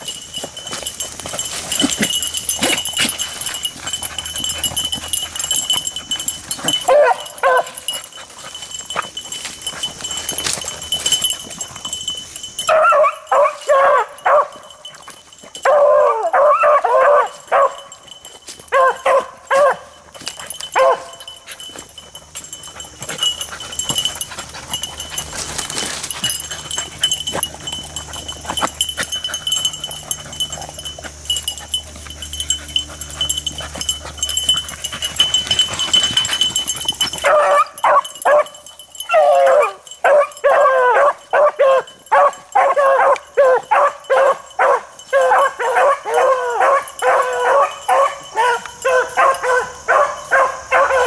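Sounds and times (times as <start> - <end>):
hounds baying as a pack: 0.0 - 51.0.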